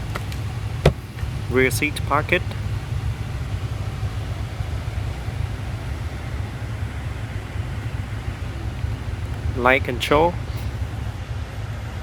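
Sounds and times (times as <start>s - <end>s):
even hiss: 0.0s - 11.2s
steady low rumble: 0.0s - 11.2s.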